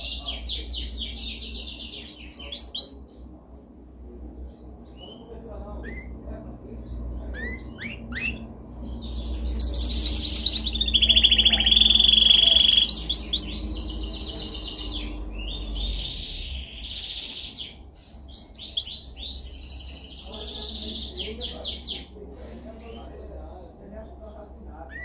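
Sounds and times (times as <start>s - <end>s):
canary singing trills: 0.0s - 3.4s, 4.3s - 22.2s, 23.9s - 25.0s
constant low hum: 0.0s - 20.7s.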